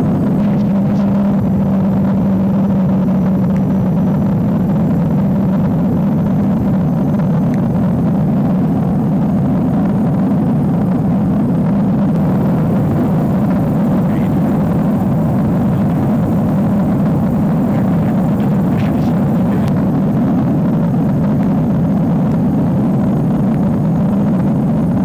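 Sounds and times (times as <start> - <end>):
helicopter rotor and turbine noise: 0.0 - 25.0.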